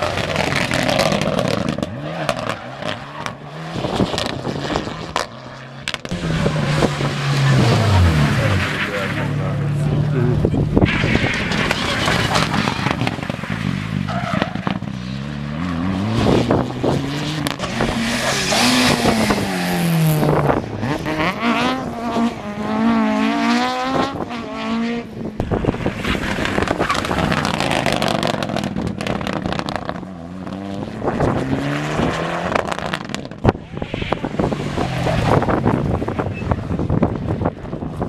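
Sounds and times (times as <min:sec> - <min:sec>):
rally car engines revving: 0:00.0 - 0:38.0.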